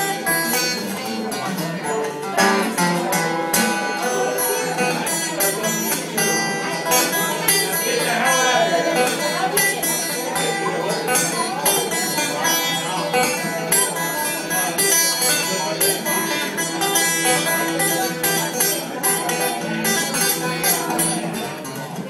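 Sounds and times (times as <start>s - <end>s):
fingerpicked blues acoustic guitar: 0.0s - 22.0s.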